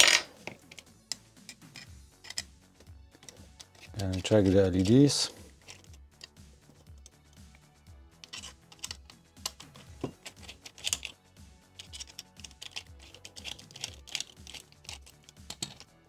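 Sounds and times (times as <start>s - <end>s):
quiet instrumental music: 0.0s - 16.0s.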